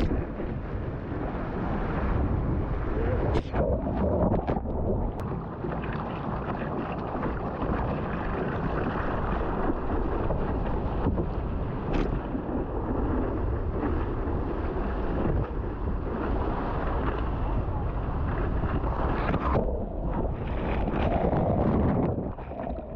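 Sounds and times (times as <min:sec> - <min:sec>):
rush of water: 0:00.0 - 0:22.9
wind noise on microphone: 0:00.0 - 0:22.9.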